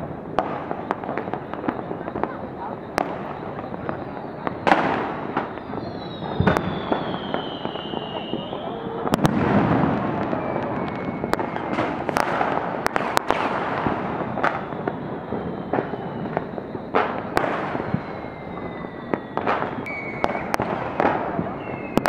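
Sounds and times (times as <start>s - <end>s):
firecracker crackle: 0.0s - 22.0s
fireworks bangs: 0.0s - 22.0s
high whistles falling in pitch: 0.0s - 22.0s.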